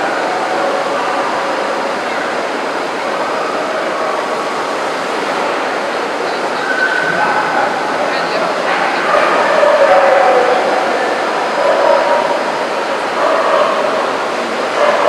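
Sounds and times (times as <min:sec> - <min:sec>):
crowd murmur: 0:00.0 - 0:15.0.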